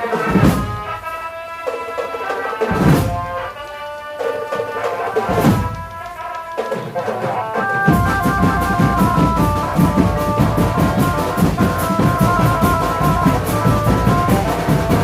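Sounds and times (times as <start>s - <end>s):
heavy drum and cymbal hits: 0.0s - 3.5s, 4.3s - 15.0s
marching band melody: 0.0s - 15.0s.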